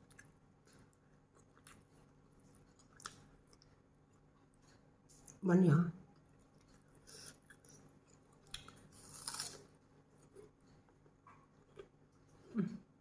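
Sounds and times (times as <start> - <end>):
person chewing crunchy food: 0.0 - 4.3, 6.3 - 12.5.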